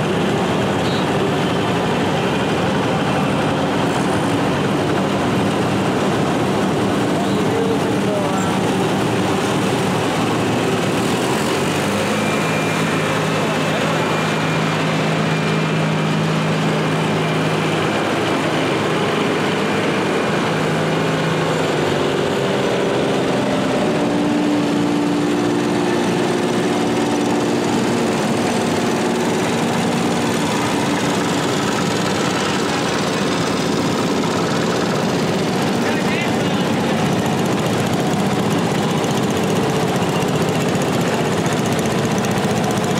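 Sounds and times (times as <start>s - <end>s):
garden tractor engines running: 0.0s - 42.9s.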